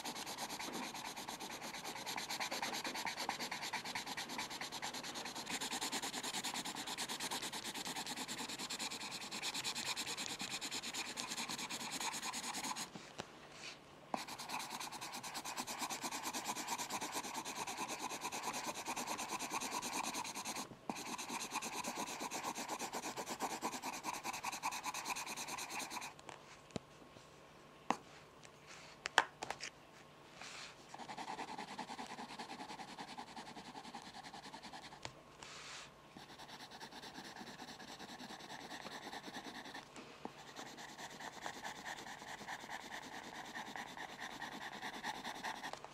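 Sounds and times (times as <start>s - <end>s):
pencil scratching on paper: 0.0s - 12.9s, 14.2s - 26.1s, 30.9s - 35.0s, 36.2s - 39.8s, 40.4s - 45.8s.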